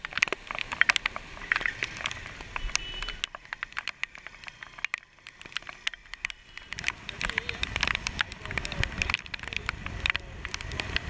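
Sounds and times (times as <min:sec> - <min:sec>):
raindrops pattering on camera housing: 0:00.0 - 0:11.0
wind and motorcycle road noise: 0:00.0 - 0:11.0.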